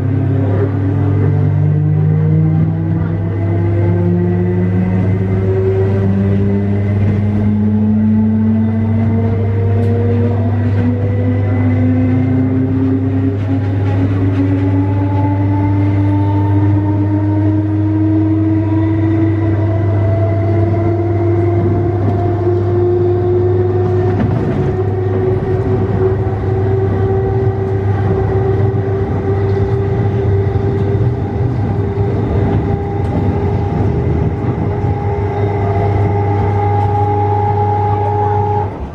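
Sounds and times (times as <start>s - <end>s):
train traction motors whining: 0.0s - 38.9s.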